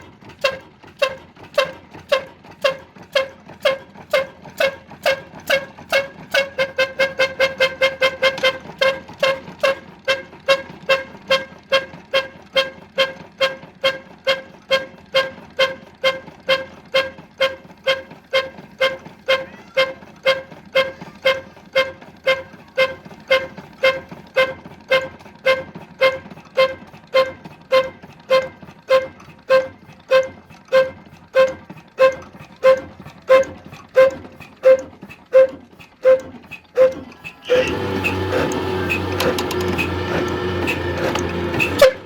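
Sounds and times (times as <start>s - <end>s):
stationary engine running: 0.0s - 42.0s.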